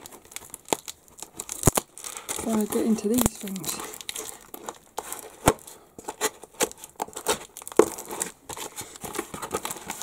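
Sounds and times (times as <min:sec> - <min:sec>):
cardboard crinkling: 0:00.0 - 0:10.0
packing tape ripping: 0:00.0 - 0:10.0.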